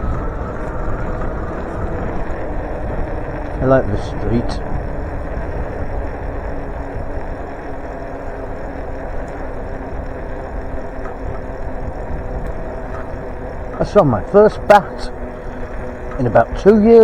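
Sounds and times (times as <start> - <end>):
wind on microphone: 0.0 - 8.0, 9.2 - 16.8
bicycle road noise: 0.0 - 17.0.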